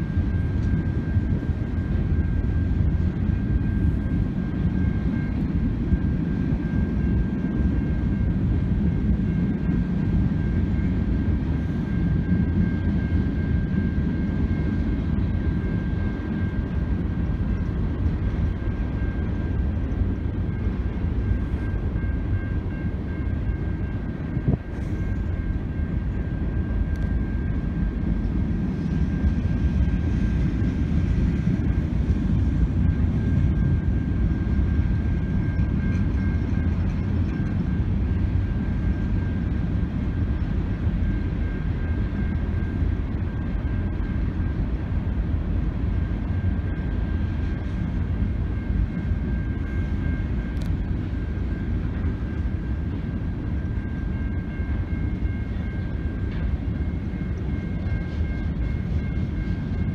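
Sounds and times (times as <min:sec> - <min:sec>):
faint high-pitched ring: 0:00.0 - 0:59.9
train wheels rumbling on rail: 0:00.0 - 0:59.9.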